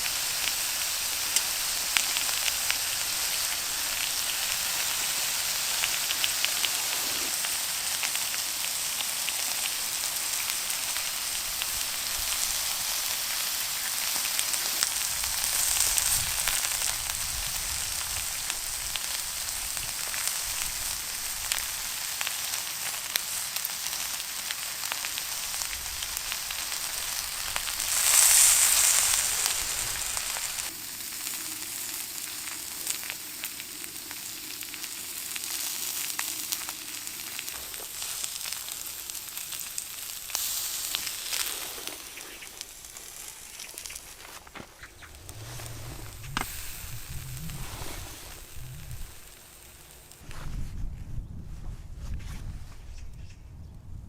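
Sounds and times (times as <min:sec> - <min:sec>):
meat sizzling over fire: 0:00.0 - 0:50.2
fire crackling and popping: 0:00.0 - 0:50.4.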